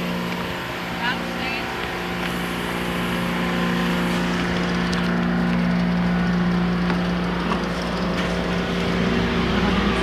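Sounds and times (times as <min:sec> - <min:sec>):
diesel locomotive engine hum: 0:00.0 - 0:10.0.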